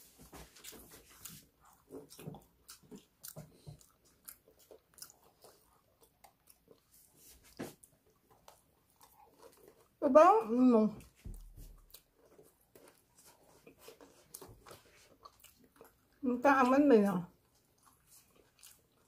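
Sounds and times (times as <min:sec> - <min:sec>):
chewing crunchy bread: 0:00.0 - 0:19.0.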